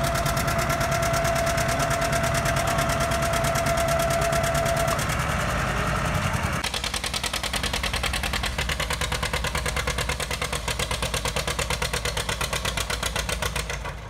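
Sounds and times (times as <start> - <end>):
tractor engine popping exhaust: 0.0 - 14.0.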